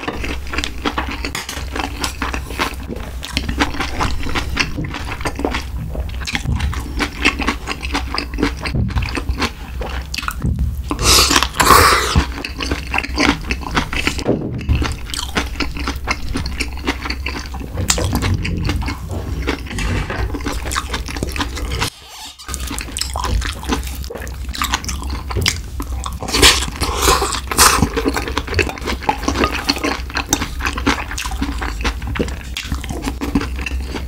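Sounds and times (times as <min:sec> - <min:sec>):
person chewing: 0:00.0 - 0:34.0.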